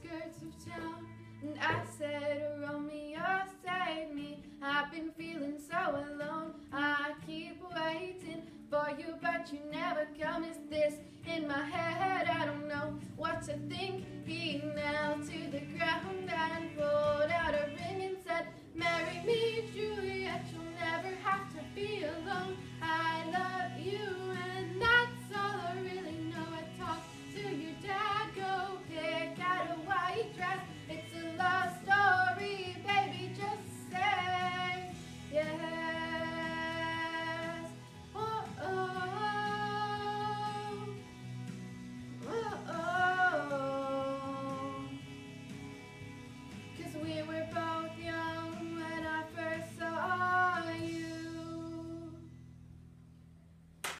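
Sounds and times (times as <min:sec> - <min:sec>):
woman singing pop ballad: 0:00.0 - 0:41.1, 0:42.2 - 0:45.0, 0:46.7 - 0:52.2.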